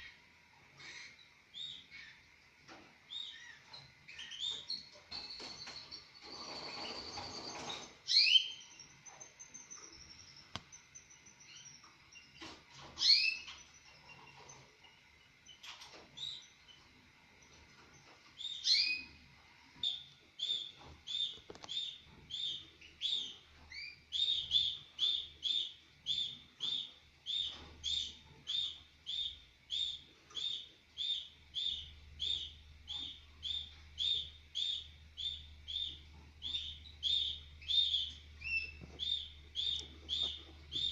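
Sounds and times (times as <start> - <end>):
canary chirps: 0.0 - 40.9.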